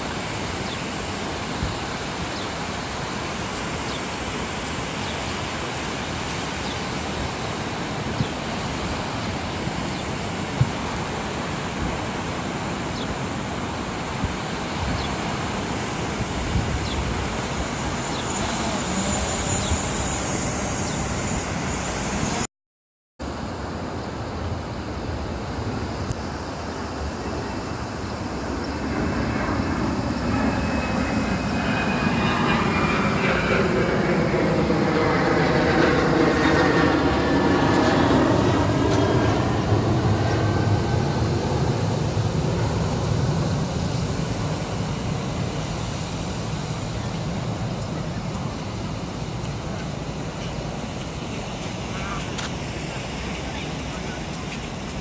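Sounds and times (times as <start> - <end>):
steady rushing noise: 0.0 - 22.5, 23.2 - 55.0.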